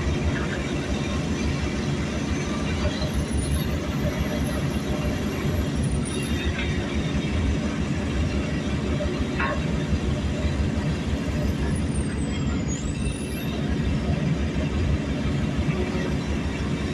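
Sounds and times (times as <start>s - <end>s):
heavy diesel machinery rumbling: 0.0s - 16.9s.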